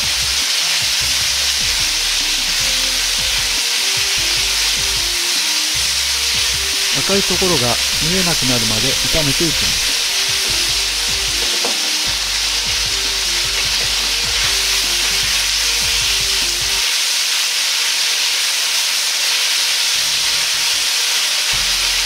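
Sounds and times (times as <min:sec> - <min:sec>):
meat sizzling in a wok: 0:00.0 - 0:22.0.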